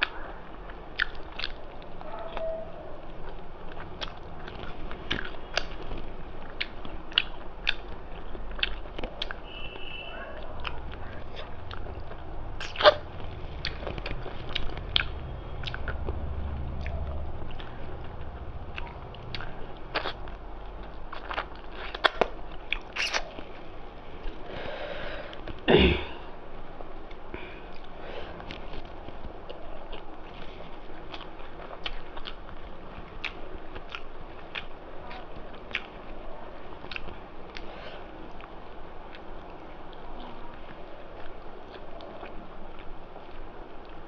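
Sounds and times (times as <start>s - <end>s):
person chewing food: 0.0s - 24.6s, 27.0s - 44.0s.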